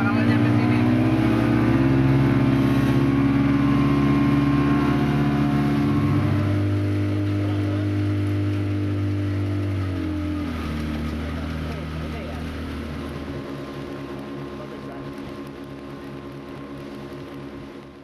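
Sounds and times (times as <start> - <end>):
motorboat engine running: 0.0 - 18.0.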